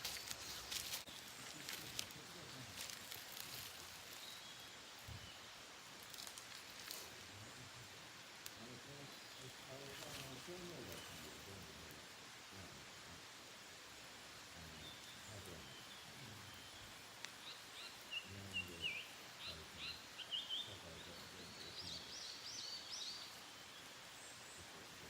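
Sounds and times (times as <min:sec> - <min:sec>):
faint outdoor background: 0:00.0 - 0:25.0
songbird chirping and trilling: 0:00.0 - 0:25.0.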